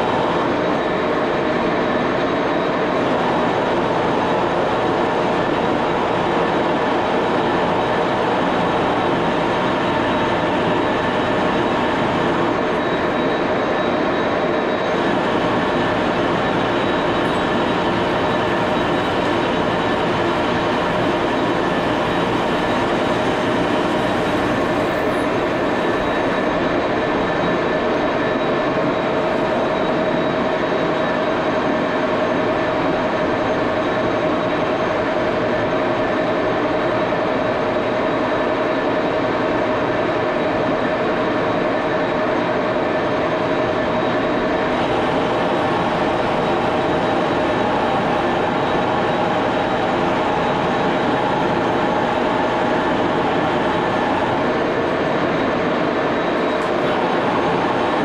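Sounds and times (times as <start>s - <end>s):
lathe drone with constant whine: 0.0s - 58.0s.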